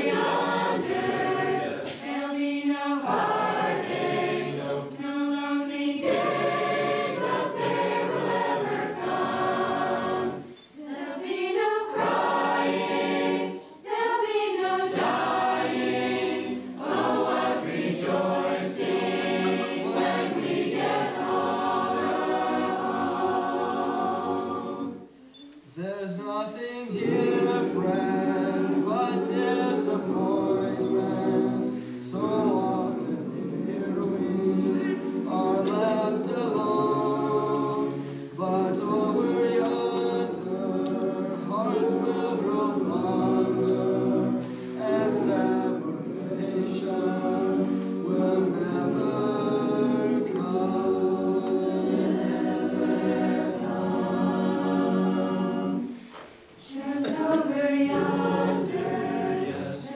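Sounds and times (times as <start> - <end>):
choir singing a hymn a cappella: 0.0 - 59.9.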